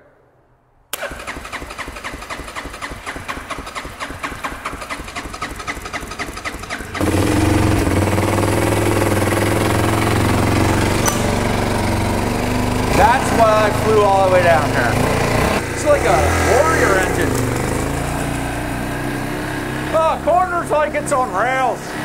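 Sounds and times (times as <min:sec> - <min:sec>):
motorcycle engine cranking and starting: 0:00.9 - 0:22.0.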